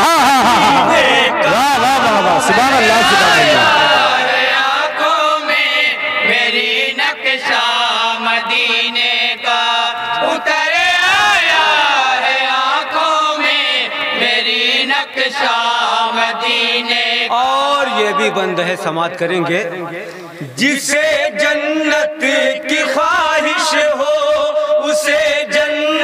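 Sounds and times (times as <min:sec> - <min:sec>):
men singing in unison: 0:00.0 - 0:18.4, 0:20.1 - 0:26.0.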